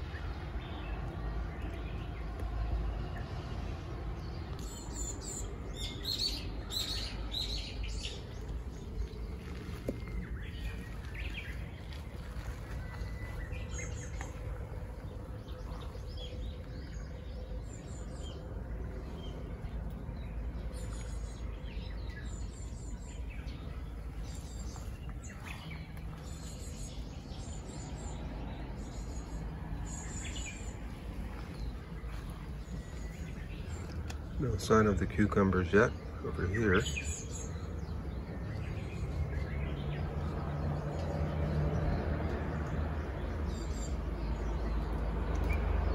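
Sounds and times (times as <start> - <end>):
low outdoor background noise: 0.0 - 45.9
songbirds chirping: 0.0 - 45.9.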